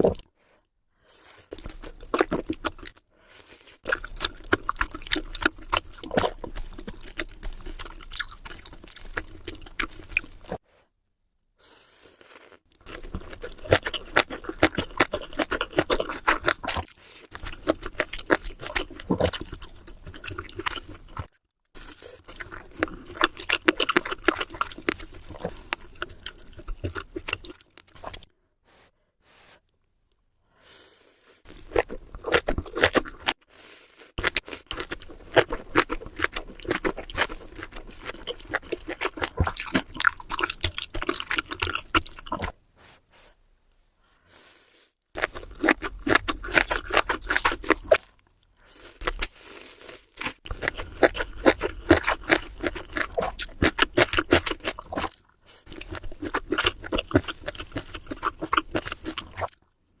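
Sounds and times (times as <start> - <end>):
crunchy chewing: 1.1 - 10.6, 12.0 - 28.8, 29.6 - 42.6, 44.4 - 59.8.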